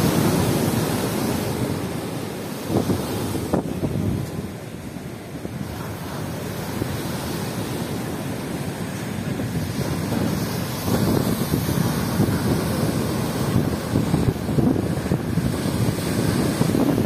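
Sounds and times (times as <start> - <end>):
waves crashing against a seawall: 0.0 - 17.0
wind buffeting the microphone: 0.0 - 17.0.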